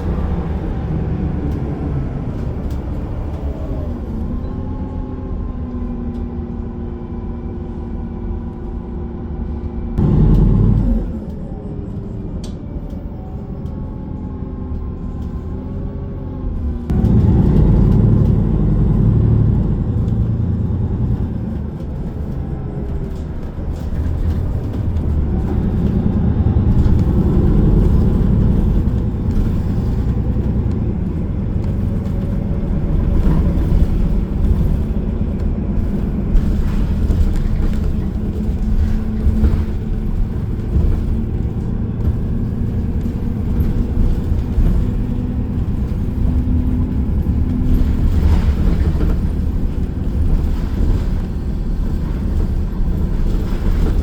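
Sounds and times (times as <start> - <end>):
bus engine and road rumble: 0.0 - 54.0
bus whine: 0.0 - 54.0.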